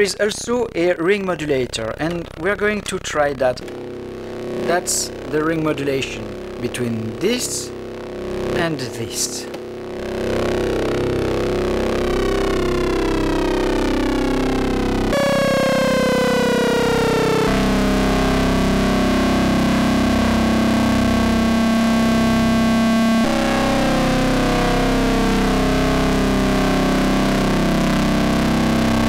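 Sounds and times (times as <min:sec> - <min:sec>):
modular synthesizer drone: 0:00.0 - 0:29.0.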